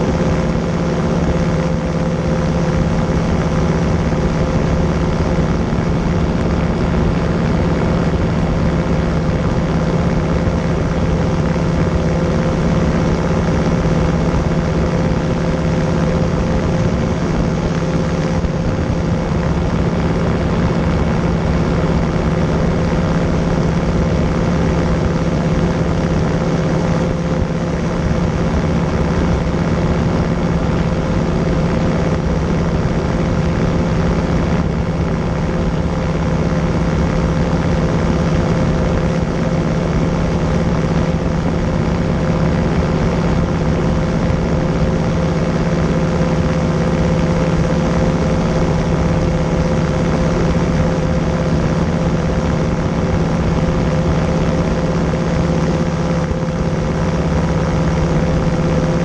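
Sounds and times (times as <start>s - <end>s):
ultralight engine and propeller drone: 0.0s - 59.0s.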